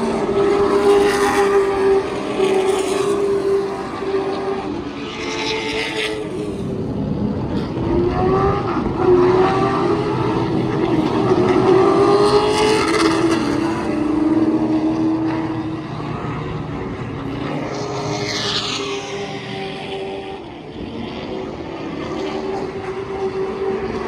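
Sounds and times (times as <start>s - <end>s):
racing car engines passing: 0.0s - 24.0s.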